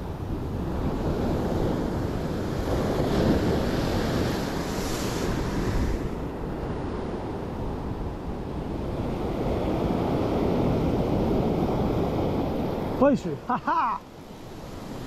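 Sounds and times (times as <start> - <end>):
wind buffeting microphone: 0.0 - 13.0
sea surf washing ashore: 0.0 - 15.0.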